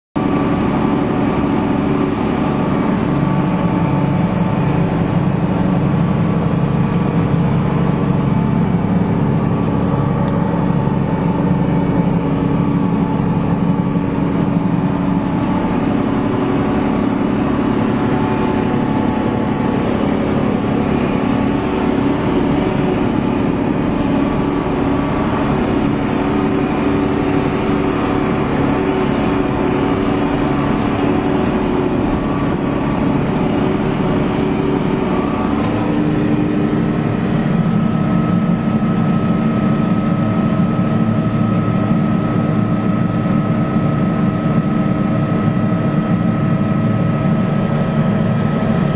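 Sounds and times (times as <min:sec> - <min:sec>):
diesel engine running steadily: 0:00.0 - 0:48.9.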